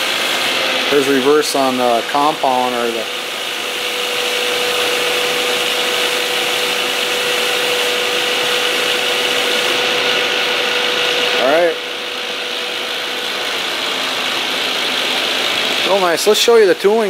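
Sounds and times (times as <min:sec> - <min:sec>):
lathe running with whine: 0:00.0 - 0:17.0.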